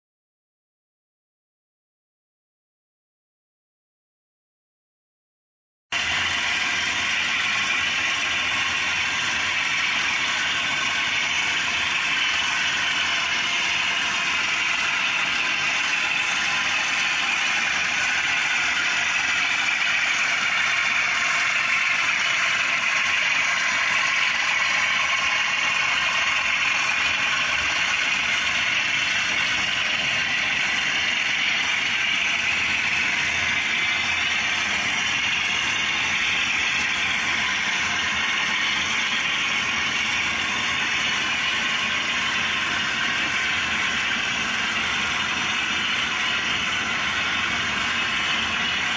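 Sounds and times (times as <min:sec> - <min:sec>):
diesel engine drone from speakers: 0:06.0 - 0:48.9.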